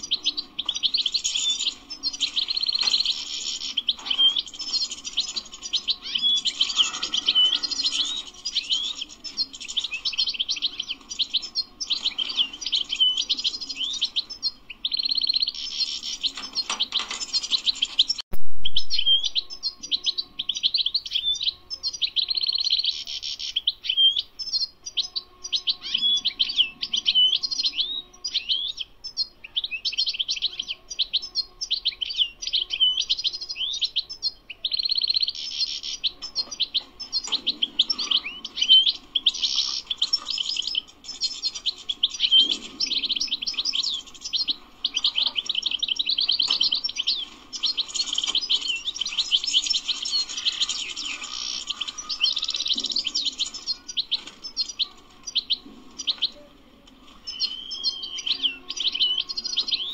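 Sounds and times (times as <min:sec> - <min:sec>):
bird twittering song: 0:00.0 - 0:59.9.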